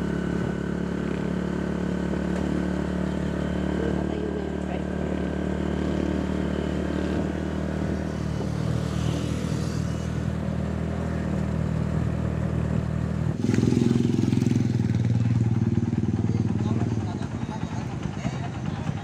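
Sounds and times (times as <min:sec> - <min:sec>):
close pulsing engine: 0:00.0 - 0:19.0
motorcycle engine running: 0:00.0 - 0:19.0.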